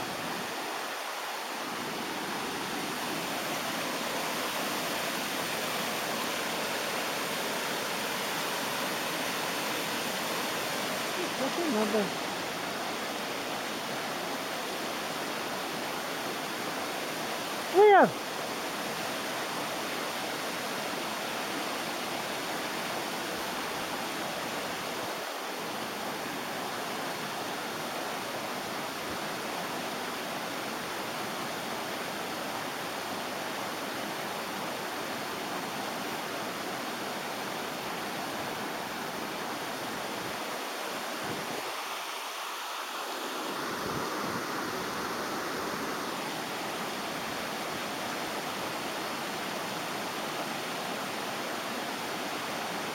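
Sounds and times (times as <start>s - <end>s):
river water rushing over cascade: 0.0s - 52.9s.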